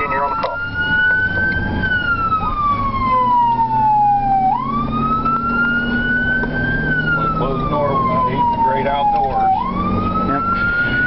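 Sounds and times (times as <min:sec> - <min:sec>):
engine and road rumble: 0:00.0 - 0:11.0
siren wailing: 0:00.0 - 0:11.0.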